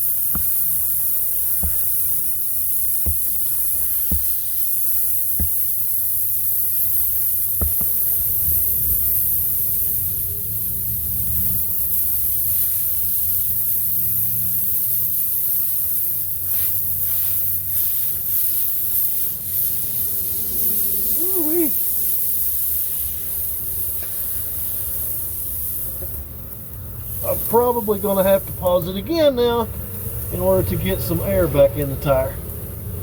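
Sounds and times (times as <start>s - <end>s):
air hissing from tire: 0.0s - 33.0s.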